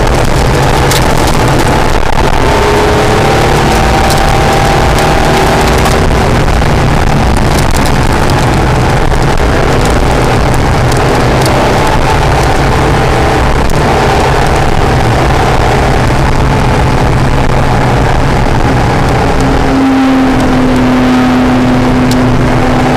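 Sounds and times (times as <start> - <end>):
car engine running hard: 0.0 - 22.9.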